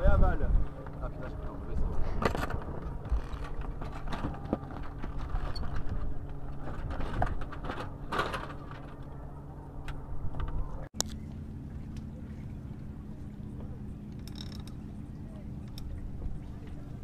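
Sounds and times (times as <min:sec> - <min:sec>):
steady low hum: 0:00.0 - 0:17.0
wind and water rumble: 0:00.0 - 0:17.0.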